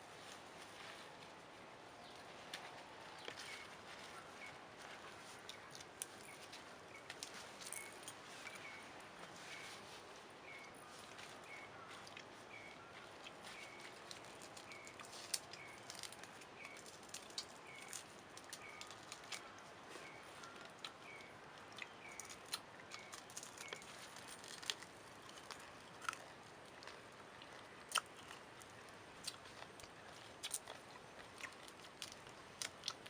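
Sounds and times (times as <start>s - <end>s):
faint outdoor background: 0.0s - 33.0s.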